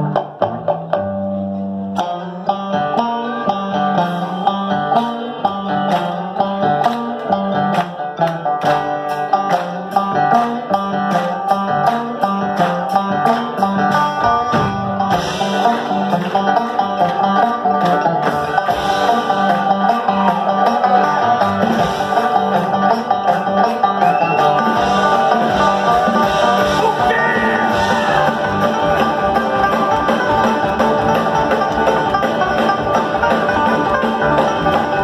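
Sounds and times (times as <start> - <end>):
acoustic guitar and double bass: 0.0 - 35.0.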